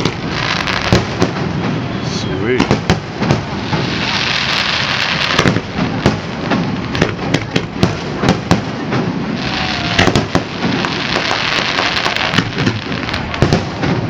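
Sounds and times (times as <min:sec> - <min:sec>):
fireworks bangs and pops: 0:00.0 - 0:14.0
fireworks crackling: 0:00.0 - 0:14.0.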